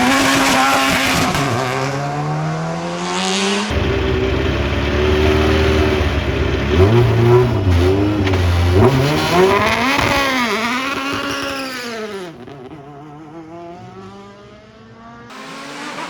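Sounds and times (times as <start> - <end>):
engine at high steady revs: 0.0 - 16.0
race car engine at full throttle: 0.0 - 16.0.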